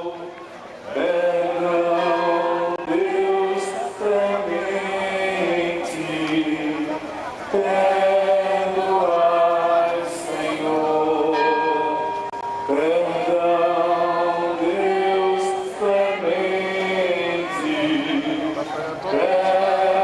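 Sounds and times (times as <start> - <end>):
voices singing a hymn: 0.0 - 20.0.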